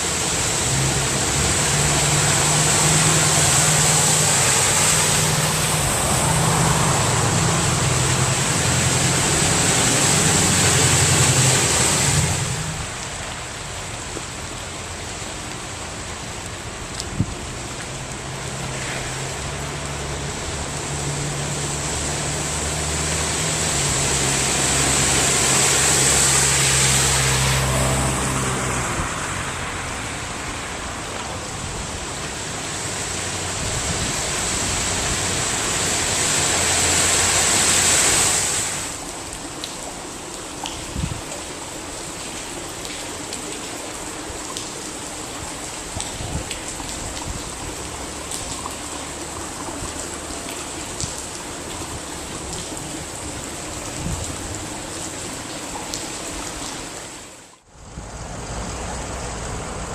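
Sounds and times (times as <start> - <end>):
floodwater splashing: 0.0 - 59.9
running water: 0.0 - 59.9.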